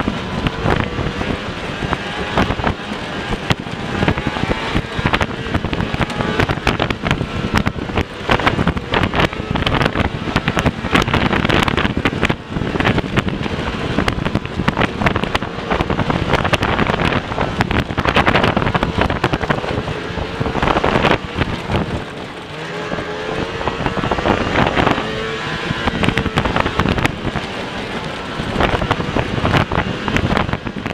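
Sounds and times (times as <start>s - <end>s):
skis and track rattling on dirt: 0.0s - 30.9s
snowmobile engine: 0.0s - 30.9s
wind noise on microphone: 0.0s - 30.9s.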